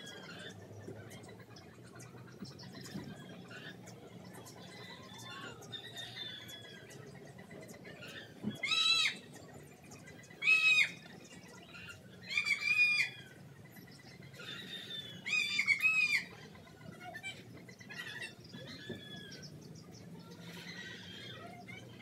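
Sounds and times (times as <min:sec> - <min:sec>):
high-pitched animal calls: 0:00.0 - 0:09.3, 0:10.3 - 0:22.0
faint chirping: 0:00.0 - 0:22.0.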